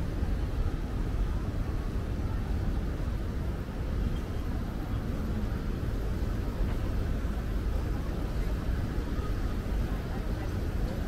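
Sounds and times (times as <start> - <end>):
urban background rumble: 0.0 - 11.0.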